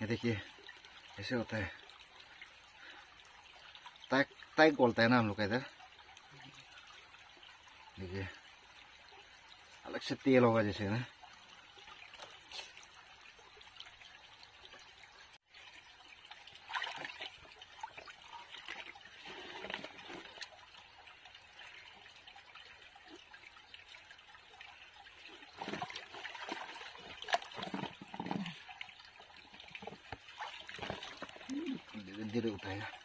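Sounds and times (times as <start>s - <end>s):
stream trickling: 0.0s - 33.0s.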